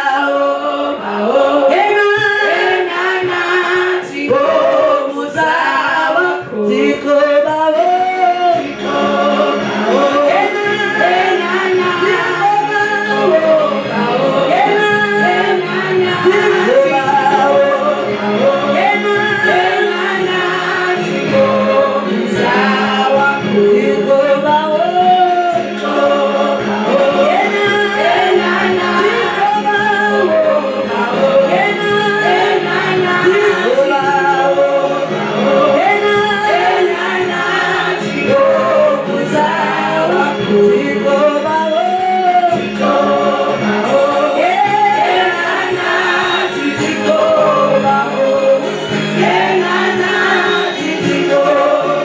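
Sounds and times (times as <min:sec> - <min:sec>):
choir singing: 0:00.0 - 0:52.0.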